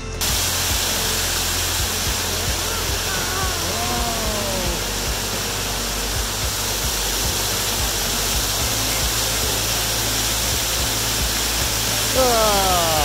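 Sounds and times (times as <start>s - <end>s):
waterfall roaring: 0.2s - 13.0s.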